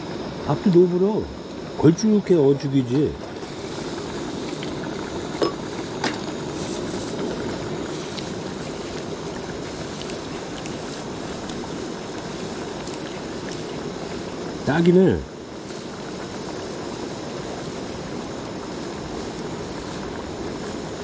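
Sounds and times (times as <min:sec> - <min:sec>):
gas stove burning: 0:00.0 - 0:21.0
river running: 0:00.0 - 0:21.0.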